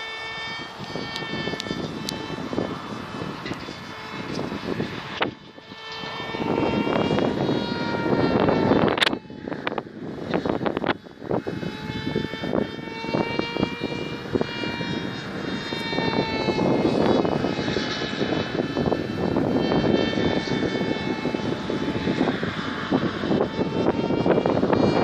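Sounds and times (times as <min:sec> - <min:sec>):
propeller aircraft engine droning: 0:00.0 - 0:25.0
wind buffeting microphone: 0:00.0 - 0:25.0.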